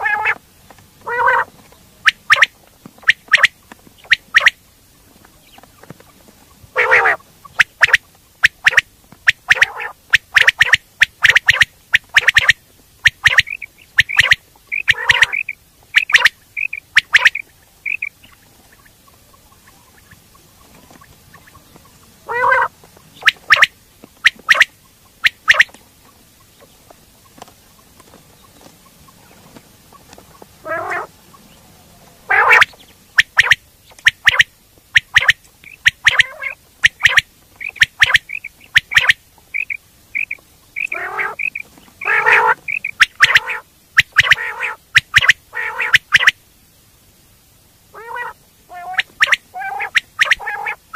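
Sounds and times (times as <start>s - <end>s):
quail calling: 0.0s - 0.4s, 1.0s - 46.4s, 47.9s - 50.9s.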